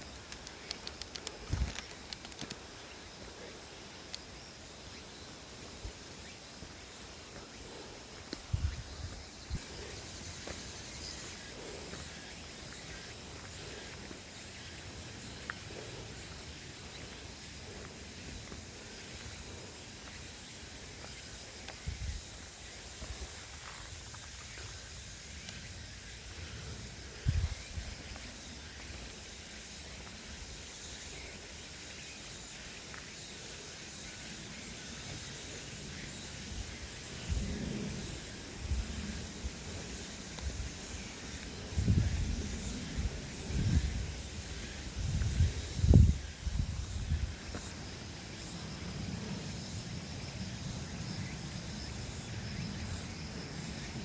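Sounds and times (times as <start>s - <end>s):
steady outdoor hiss: 0.0s - 54.0s.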